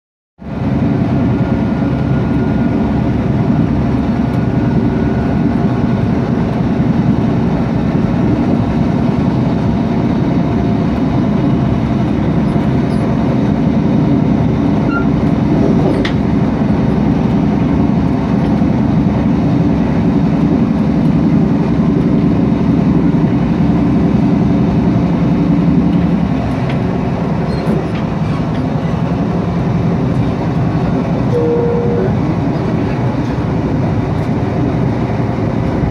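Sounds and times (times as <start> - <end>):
train interior low rumble: 0.4 - 35.9.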